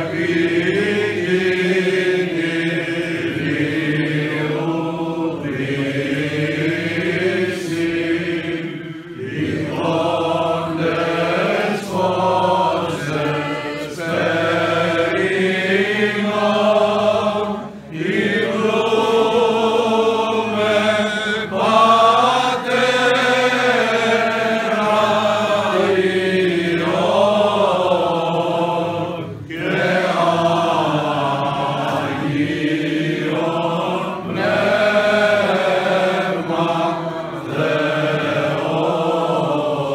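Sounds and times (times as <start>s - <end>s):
men chanting a hymn: 0.0s - 39.9s.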